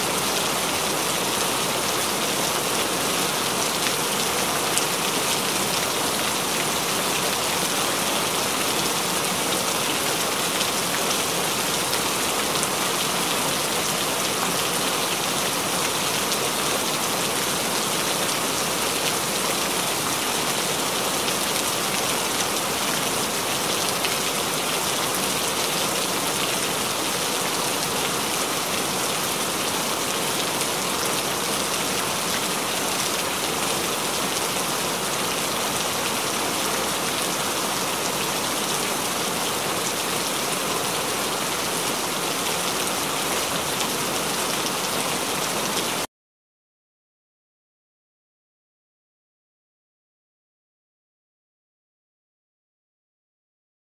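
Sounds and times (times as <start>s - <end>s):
steady rain: 0.0s - 46.1s.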